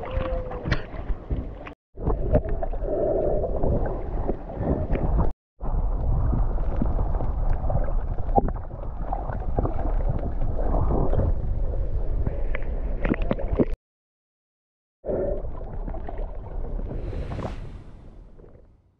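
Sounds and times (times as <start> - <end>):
muffled underwater rushing water: 0.0 - 13.8, 15.1 - 18.7.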